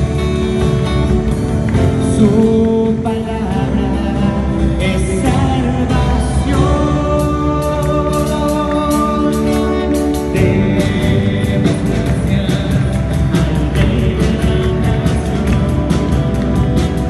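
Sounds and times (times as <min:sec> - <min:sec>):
acoustic guitar: 0:00.0 - 0:17.0
electric guitar: 0:00.0 - 0:17.0
keyboard: 0:00.0 - 0:17.0
man singing: 0:01.8 - 0:17.0.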